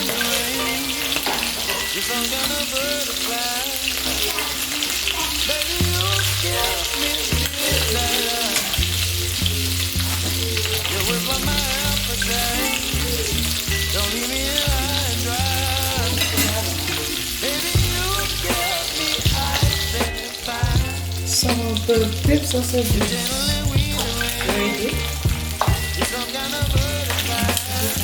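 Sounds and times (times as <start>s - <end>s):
background music: 0.0s - 28.0s
sausages sizzling in a pan: 0.0s - 28.0s.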